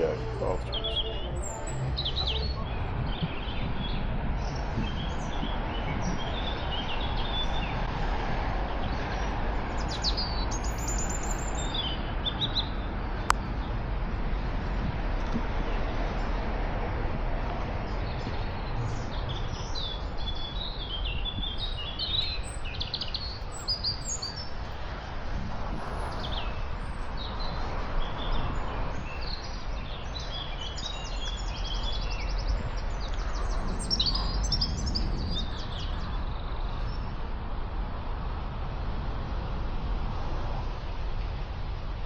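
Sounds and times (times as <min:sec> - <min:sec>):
songbirds singing: 0:00.0 - 0:37.5.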